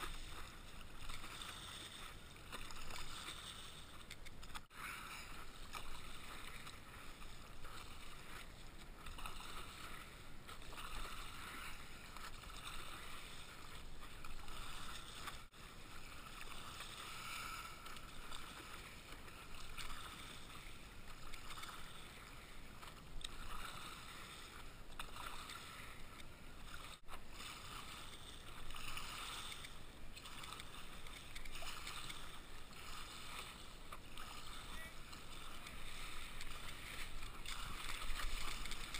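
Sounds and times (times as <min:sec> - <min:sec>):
paddle strokes splashing water: 0:00.0 - 0:38.9.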